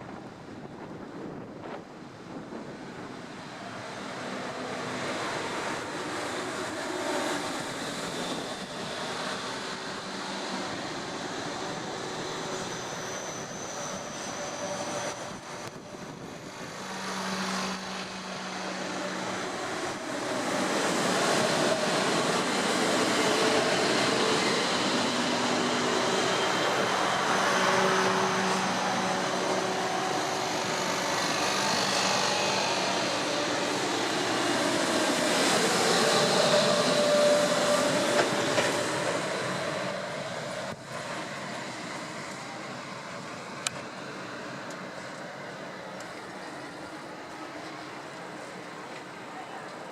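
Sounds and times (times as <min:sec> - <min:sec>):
train rolling past: 0:00.0 - 0:49.9.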